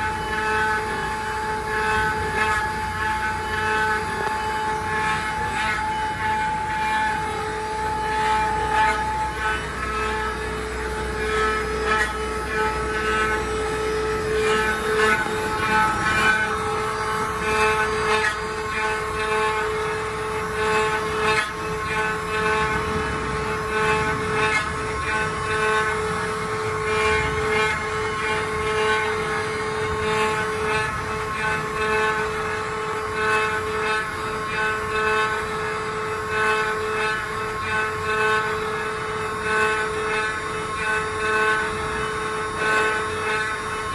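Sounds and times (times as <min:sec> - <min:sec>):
router bits rasping wood: 0:00.0 - 0:43.9
spindle motors whining: 0:00.0 - 0:43.9.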